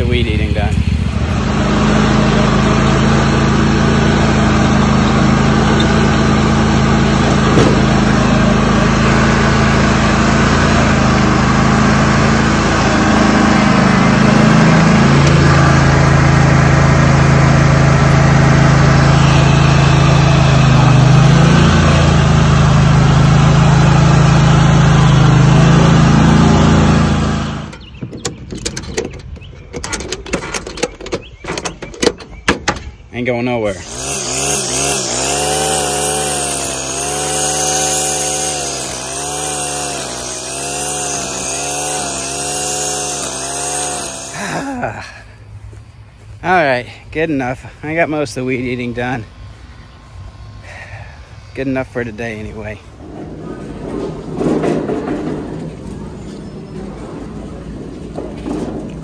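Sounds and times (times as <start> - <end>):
lawn mower engine running: 0.0 - 46.9, 52.5 - 59.0.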